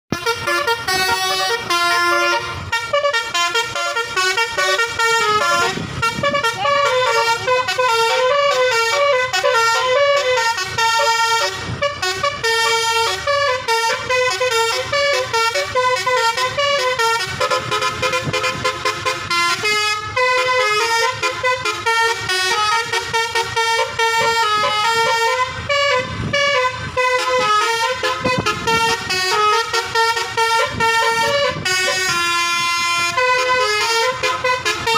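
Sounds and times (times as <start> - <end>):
electric horn playing fast melody: 0.1 - 34.9.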